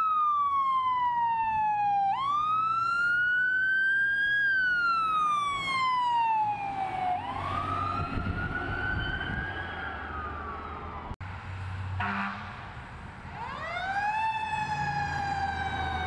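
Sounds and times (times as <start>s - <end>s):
ambulance siren wailing: 0.0s - 11.2s, 13.4s - 16.0s
vehicle engine and tyres rumbling: 0.0s - 16.0s.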